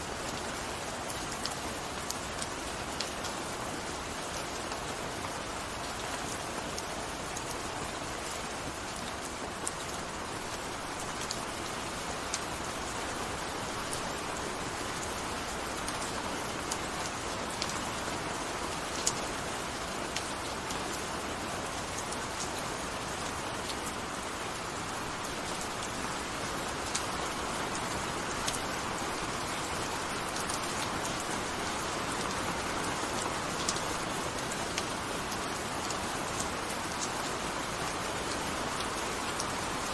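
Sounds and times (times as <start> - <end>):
gentle rain falling: 0.0 - 39.9
ticks of raindrops landing: 0.2 - 39.9.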